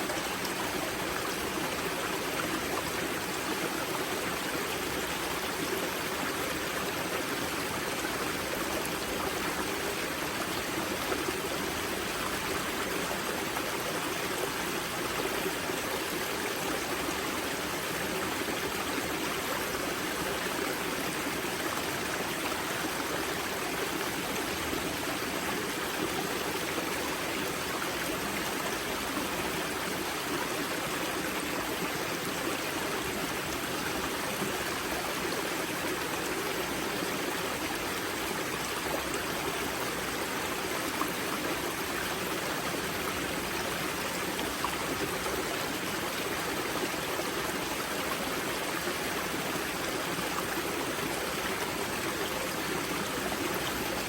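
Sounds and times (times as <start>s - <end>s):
stream water rushing and babbling: 0.0s - 54.0s.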